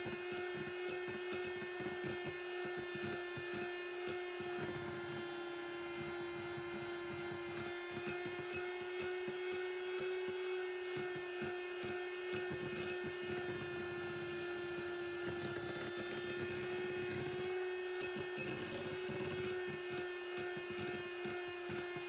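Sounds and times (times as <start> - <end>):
electric mixer motor whine: 0.0 - 22.0.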